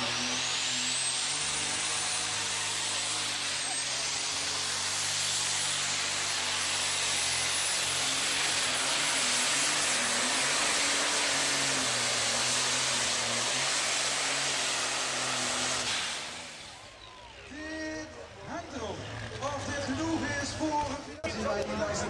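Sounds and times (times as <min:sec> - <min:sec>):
diesel tractor engine at full load: 0:00.0 - 0:22.0.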